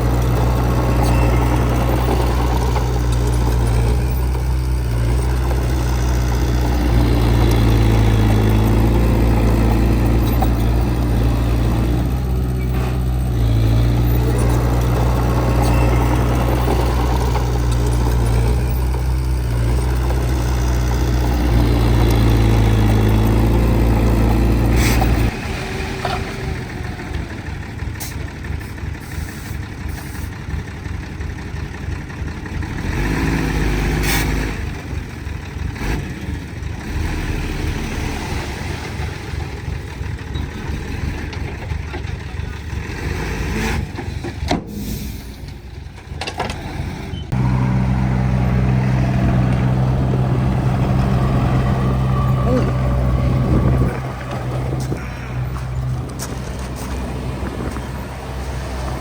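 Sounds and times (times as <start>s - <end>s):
diesel machinery engine drone: 0.0s - 59.0s
uneven low engine rumble: 0.0s - 59.0s.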